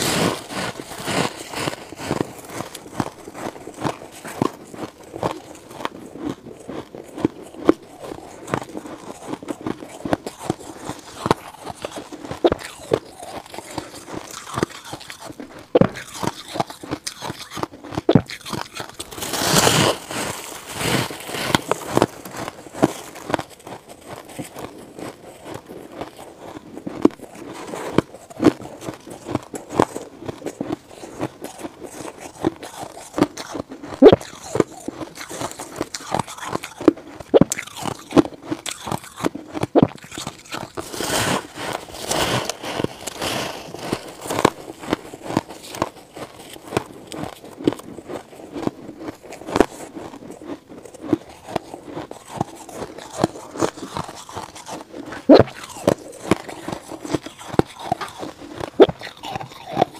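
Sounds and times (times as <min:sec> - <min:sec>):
crunching ice chunks: 0:00.0 - 0:59.9.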